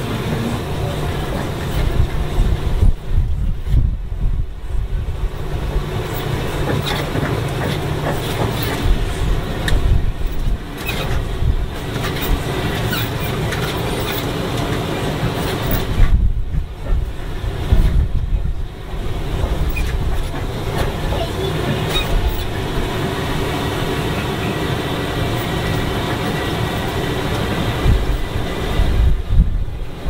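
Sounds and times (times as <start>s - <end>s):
truck engine and road rumble: 0.0s - 30.0s
vehicle body rattling: 5.4s - 29.6s.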